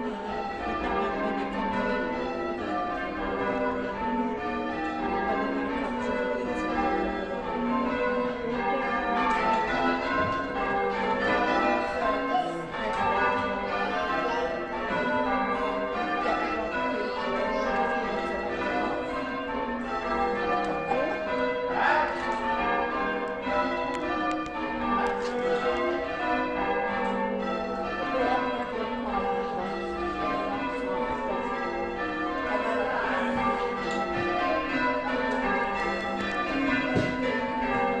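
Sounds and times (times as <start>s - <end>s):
church bells ringing: 0.0s - 38.0s.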